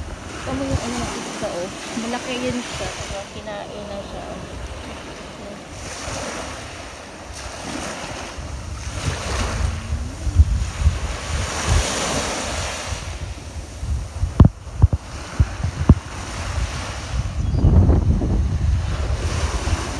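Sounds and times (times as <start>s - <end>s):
small waves breaking on shore: 0.0s - 19.9s
wind buffeting microphone: 0.0s - 19.9s.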